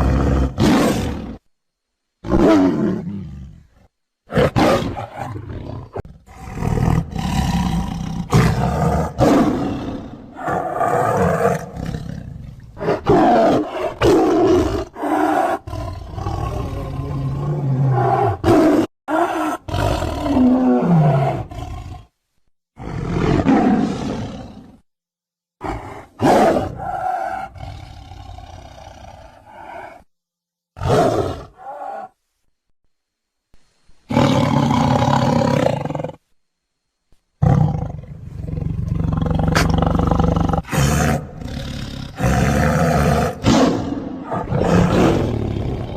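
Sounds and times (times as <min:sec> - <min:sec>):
tiger roaring and growling: 0:00.0 - 0:01.5, 0:02.2 - 0:22.2, 0:22.8 - 0:24.8, 0:25.6 - 0:30.1, 0:30.8 - 0:32.2, 0:34.1 - 0:36.3, 0:37.4 - 0:45.9.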